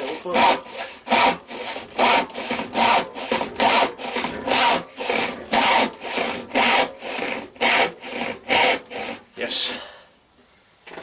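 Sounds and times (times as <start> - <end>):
handsaw cutting wood: 0.0 - 9.3.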